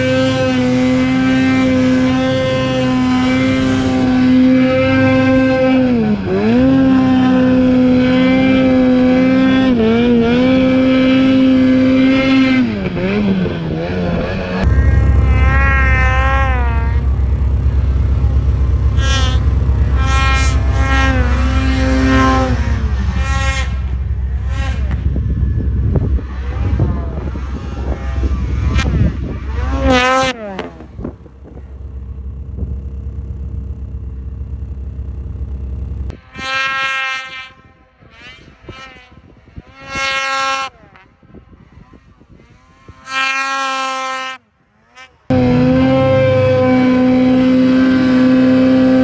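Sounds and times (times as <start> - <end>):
snowmobile engines revving: 0.0 - 49.0.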